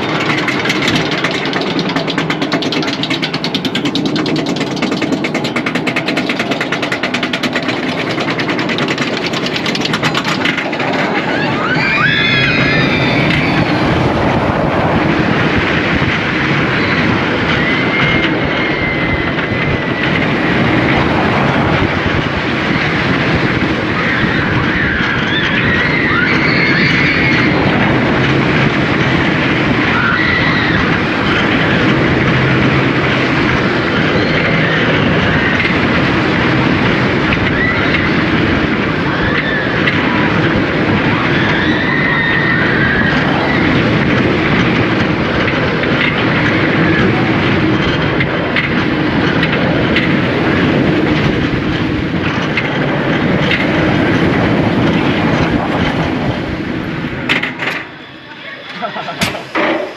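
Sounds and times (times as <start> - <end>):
roller coaster lift hill clatter: 0.0 - 59.9
rush of wind and wheel noise: 0.0 - 59.9.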